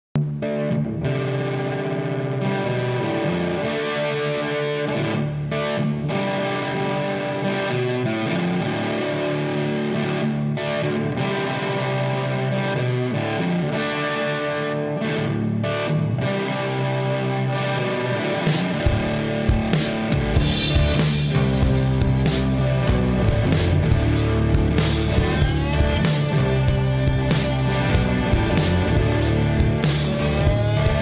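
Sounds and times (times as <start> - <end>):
rock music with distorted guitar: 0.2 - 31.0.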